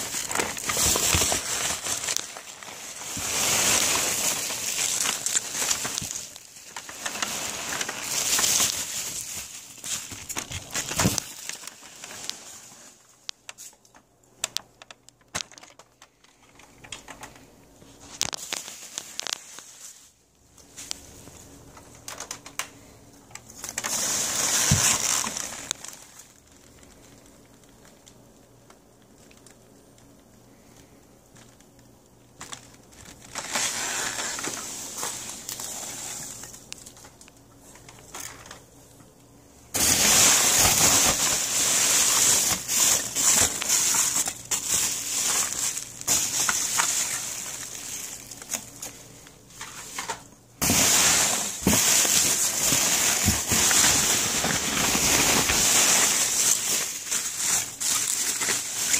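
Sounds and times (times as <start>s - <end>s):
foam packing peanuts rustling: 0.0s - 39.0s, 39.6s - 58.9s.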